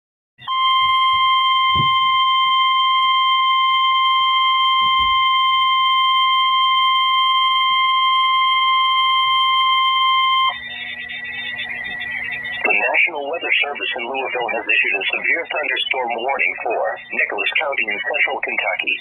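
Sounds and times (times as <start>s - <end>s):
steady piercing alarm tone: 0.4s - 19.0s.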